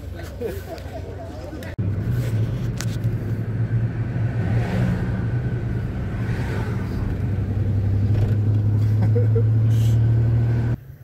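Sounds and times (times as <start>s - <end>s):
vehicle engine running steadily: 0.0s - 11.0s.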